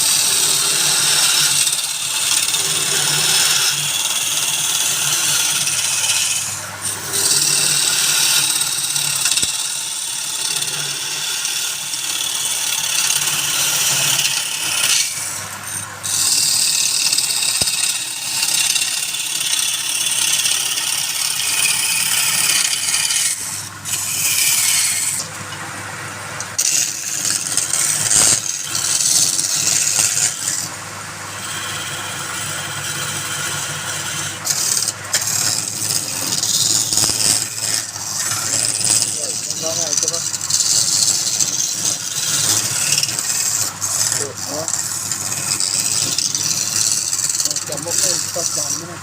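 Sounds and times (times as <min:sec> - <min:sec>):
lathe motor hum: 0:00.0 - 0:49.0
lathe tool scraping wood: 0:00.0 - 0:49.0.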